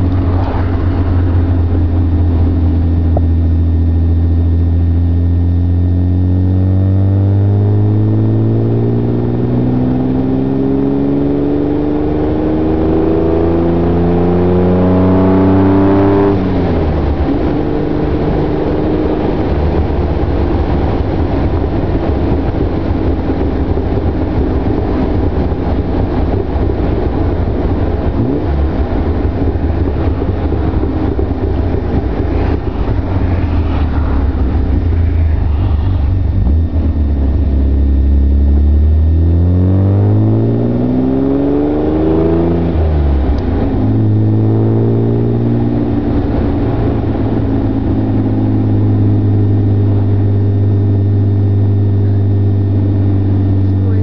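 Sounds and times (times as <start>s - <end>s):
road and wind noise: 0.0s - 54.0s
sports car engine revving: 0.0s - 54.0s.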